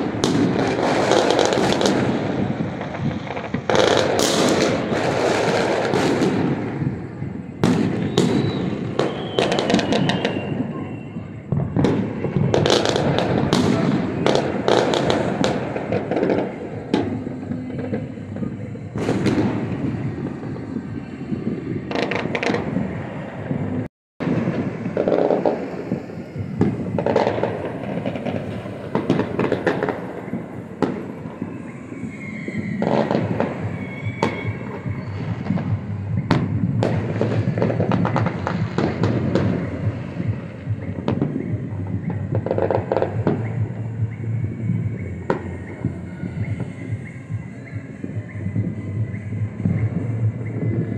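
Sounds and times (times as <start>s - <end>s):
fireworks bursting and crackling: 0.0s - 50.9s.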